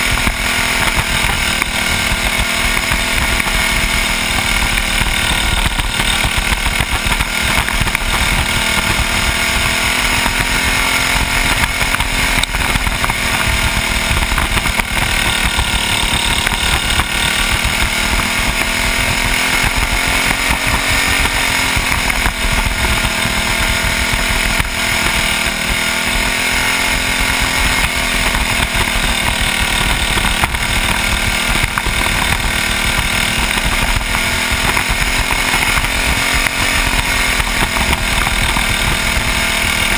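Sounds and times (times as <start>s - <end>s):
small kart engine running hard: 0.0s - 39.9s.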